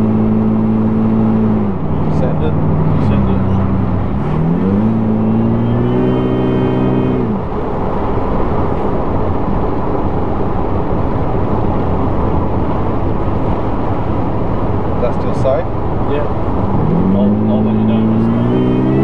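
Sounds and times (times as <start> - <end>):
car engine accelerating hard: 0.0 - 19.0
road and wind noise: 0.0 - 19.0
supercharger whine: 0.0 - 19.0.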